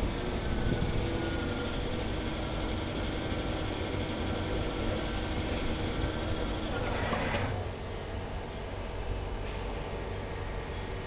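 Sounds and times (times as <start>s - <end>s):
lathe machine hum: 0.0s - 9.2s
faint machine whine: 0.0s - 11.0s.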